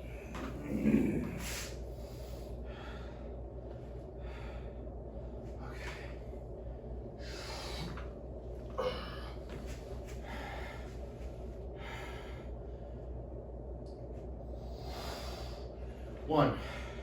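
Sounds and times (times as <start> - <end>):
steady low hum: 0.0 - 17.0
man breathing hard: 1.0 - 13.3, 14.5 - 17.0.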